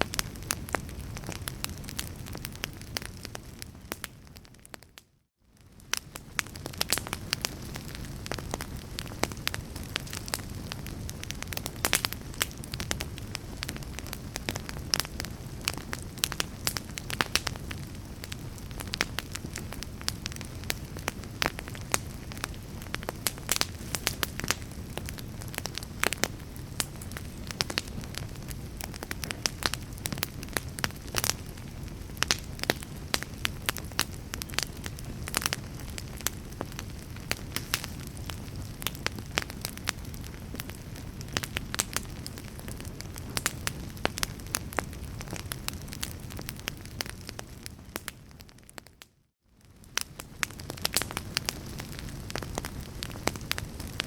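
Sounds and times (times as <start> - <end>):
fire crackling and popping: 0.0 - 54.0
low rumble of burning: 0.0 - 54.0.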